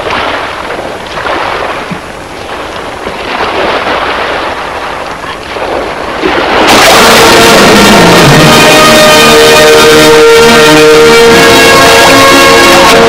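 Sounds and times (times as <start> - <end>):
rushing wind and sea: 0.0 - 13.0.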